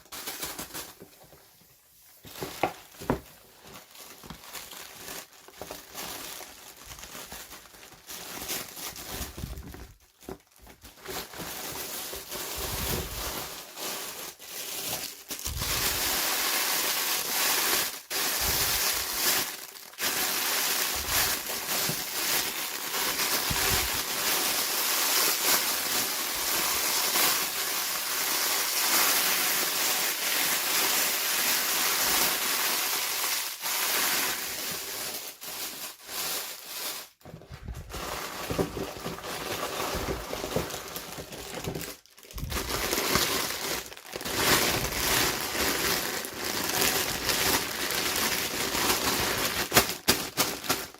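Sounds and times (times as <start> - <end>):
packaging crinkling and rustling: 0.0 - 50.9.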